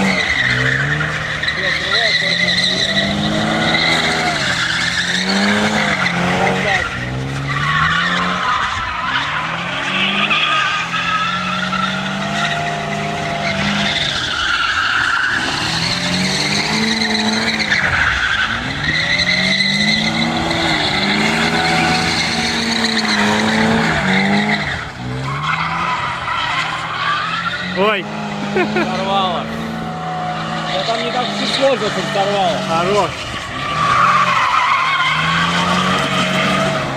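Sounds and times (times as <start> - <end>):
car engine revving: 0.0 - 36.9
tyres squealing: 0.0 - 36.9.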